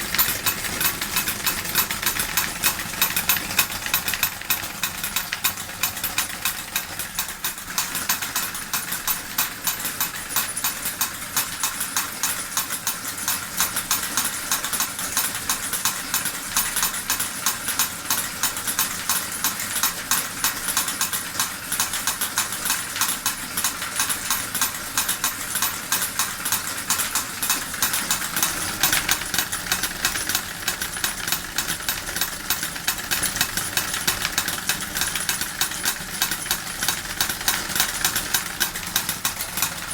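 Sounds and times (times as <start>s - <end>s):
model steam engine running: 0.0s - 39.9s.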